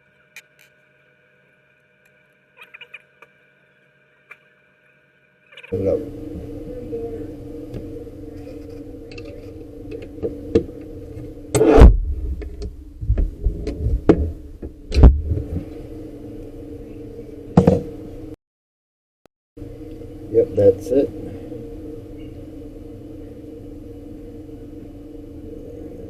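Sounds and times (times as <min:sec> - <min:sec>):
steady background hum: 0:00.0 - 0:18.4, 0:19.6 - 0:26.0.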